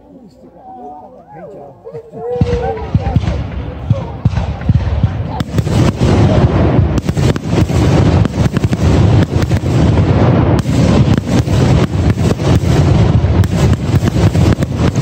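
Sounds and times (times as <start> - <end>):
fireworks bangs and booms: 2.3 - 15.0.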